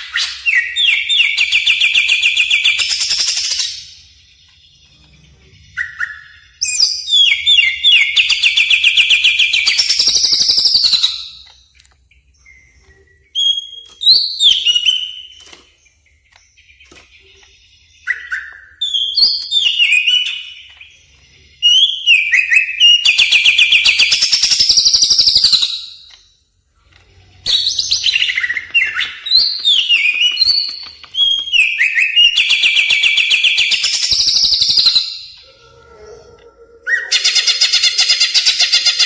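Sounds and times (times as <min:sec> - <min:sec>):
bird singing whistled trills: 0:00.0 - 0:11.6, 0:12.2 - 0:26.2, 0:27.4 - 0:39.0.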